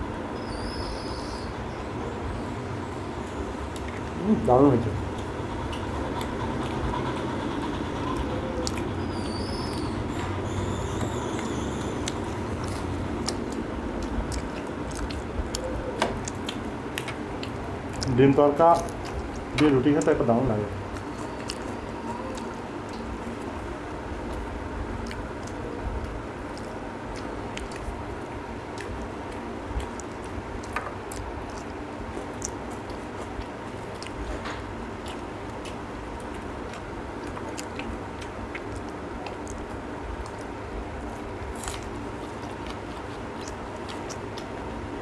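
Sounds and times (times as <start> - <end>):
people chewing: 5.0 - 45.0.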